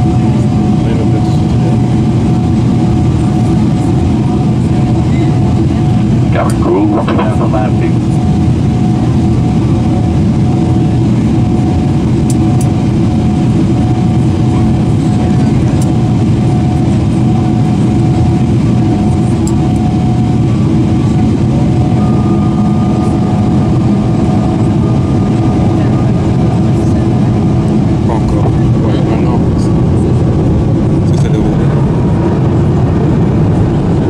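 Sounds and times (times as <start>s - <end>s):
jet engines in cabin: 0.0s - 34.0s
steady hum: 0.0s - 34.0s
higher tone: 1.6s - 11.9s, 14.6s - 34.0s.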